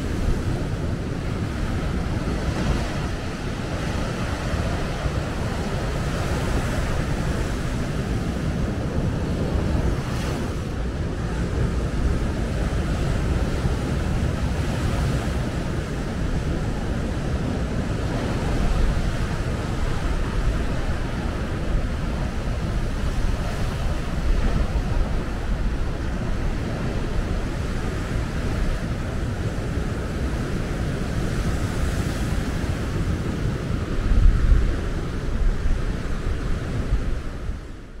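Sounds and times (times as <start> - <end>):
waves breaking on a beach: 0.0 - 38.0
wind buffeting the microphone: 0.0 - 38.0.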